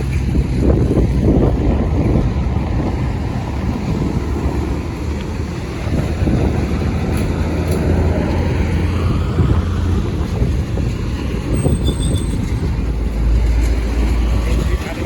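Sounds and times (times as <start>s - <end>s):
motorway traffic rumble: 0.0s - 15.0s
wind buffeting microphone: 0.0s - 15.0s.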